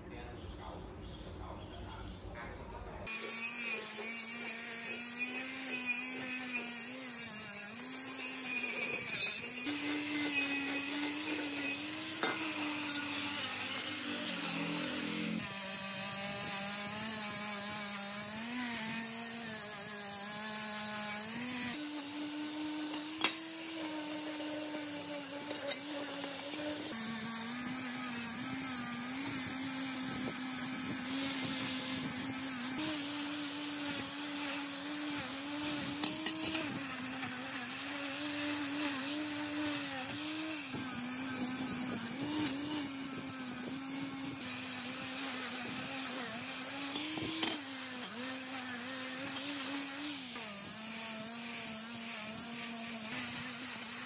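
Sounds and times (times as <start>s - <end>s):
power tool motor running: 3.0s - 54.0s.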